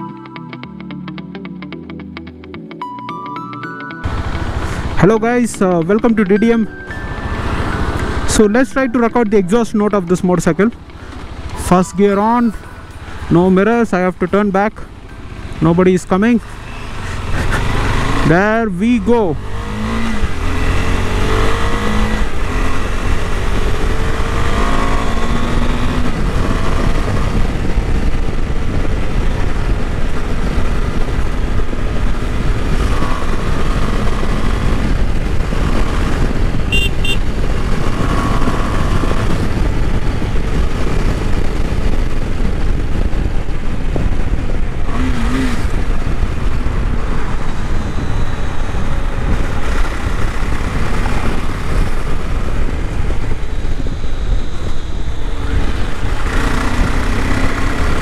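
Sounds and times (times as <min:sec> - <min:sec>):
wind and road noise: 0:00.0 - 0:58.0
motorcycle engine and exhaust: 0:04.0 - 0:58.0.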